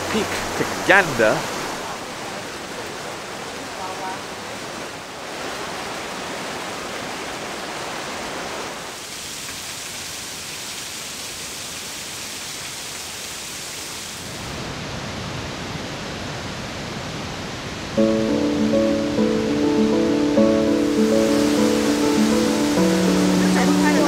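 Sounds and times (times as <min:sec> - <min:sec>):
mountain stream and waterfall rushing: 0:00.0 - 0:24.0.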